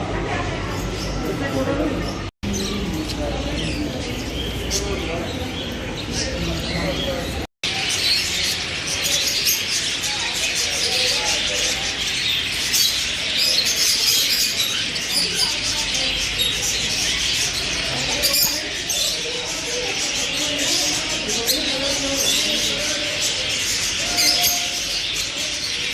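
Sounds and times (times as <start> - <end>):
small birds chirping: 0.5 - 25.9.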